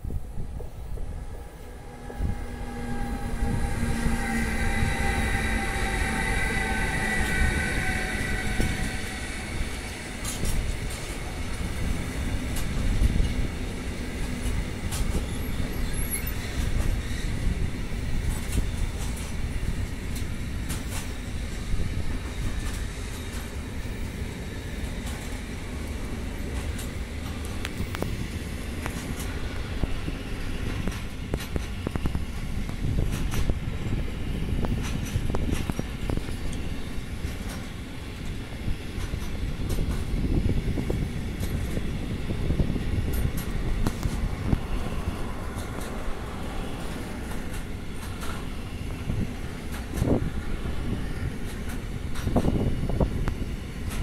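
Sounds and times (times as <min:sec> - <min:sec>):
electric locomotive whine: 0:00.0 - 0:54.0.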